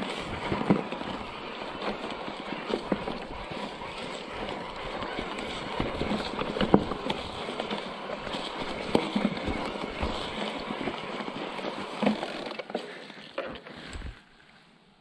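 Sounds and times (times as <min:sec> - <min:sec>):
bike tyres rolling over rough ground: 0:00.0 - 0:14.7.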